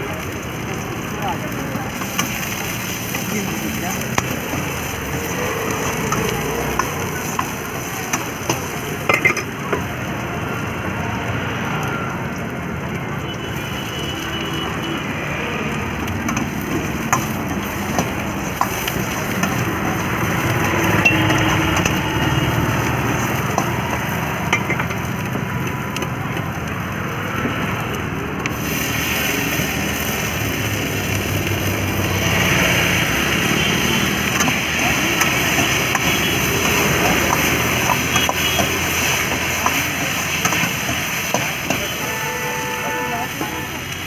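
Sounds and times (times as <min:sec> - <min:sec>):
vegetables sizzling in wok: 0:00.0 - 0:44.0.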